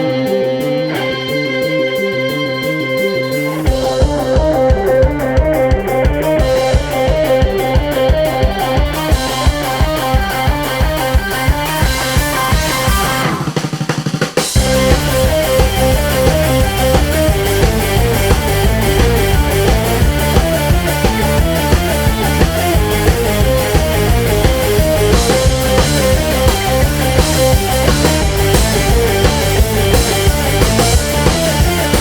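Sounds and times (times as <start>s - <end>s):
instrumental band music: 0.0s - 32.0s
drum kit beat: 3.4s - 32.0s.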